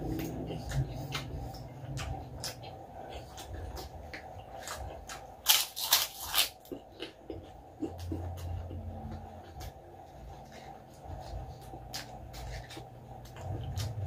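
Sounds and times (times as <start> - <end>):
chewing crispy food: 0.0 - 14.0.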